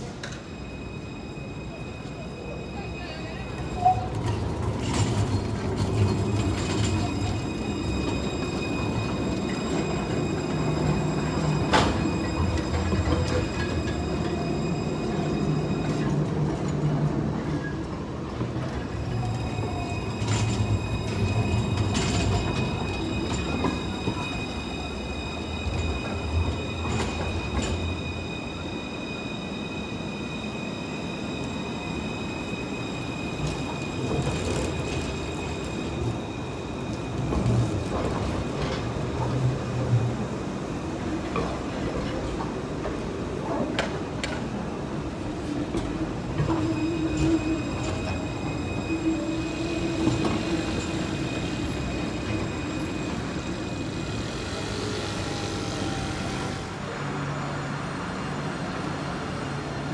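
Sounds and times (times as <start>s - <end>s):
tram wheels rumbling on rail: 0.0s - 59.9s
high wheel squeal: 0.4s - 18.0s, 18.6s - 39.4s, 45.4s - 57.8s.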